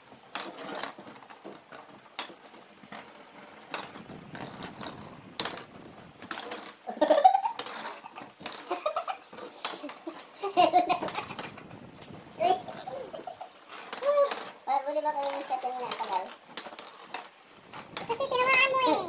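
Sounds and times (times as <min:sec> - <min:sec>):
spinning tops clicking on table: 0:00.3 - 0:10.4, 0:11.0 - 0:18.5.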